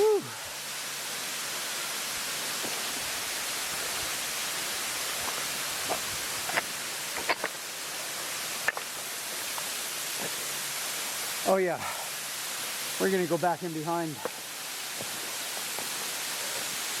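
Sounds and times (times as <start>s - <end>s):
waterfall rushing hiss: 0.0s - 17.0s.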